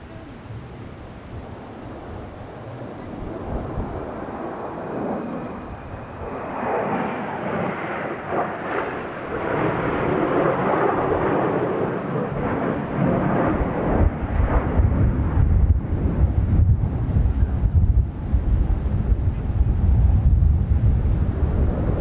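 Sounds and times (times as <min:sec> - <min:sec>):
jets roaring overhead: 0:00.0 - 0:22.0
wind buffeting microphone: 0:00.0 - 0:22.0.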